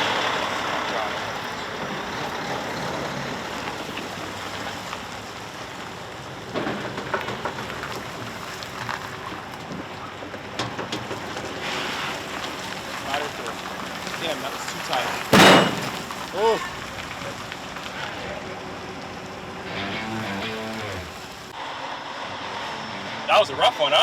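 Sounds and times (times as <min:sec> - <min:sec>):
road noise: 0:00.0 - 0:24.0
truck engine running: 0:00.0 - 0:24.0.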